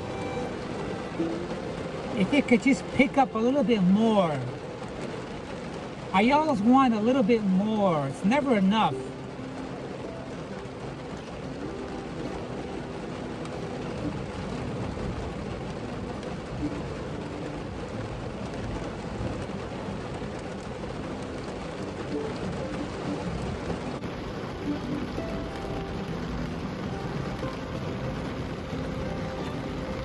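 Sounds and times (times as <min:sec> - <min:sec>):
rain on a vehicle roof: 0:00.0 - 0:30.0.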